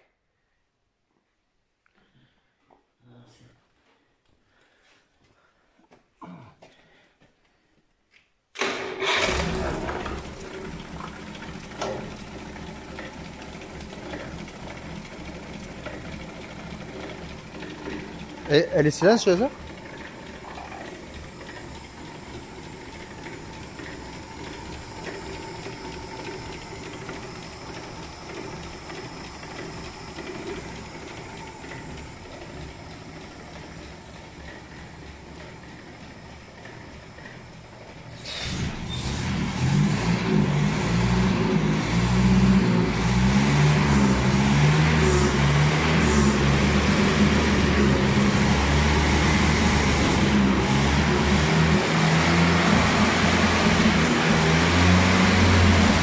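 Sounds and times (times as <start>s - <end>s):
car engine idling and revving: 9.0s - 56.0s.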